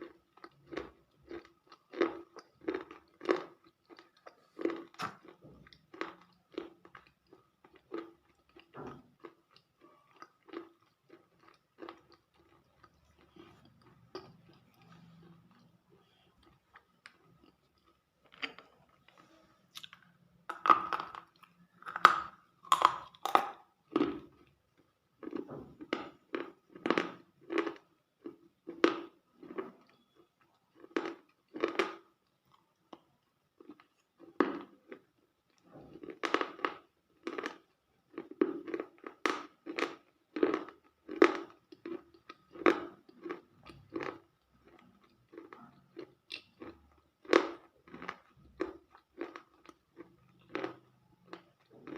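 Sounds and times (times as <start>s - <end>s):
chewing and crunching: 0.0s - 51.9s.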